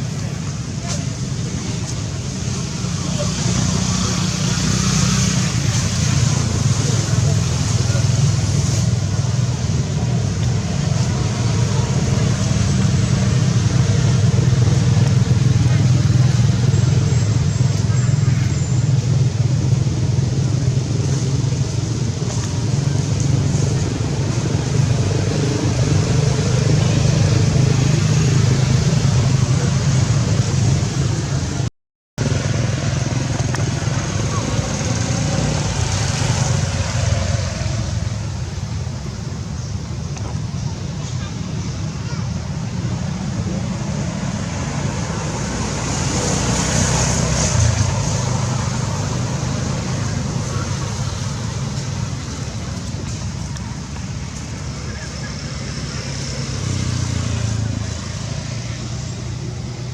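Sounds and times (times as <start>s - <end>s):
vehicle engine drone: 0.0s - 59.9s.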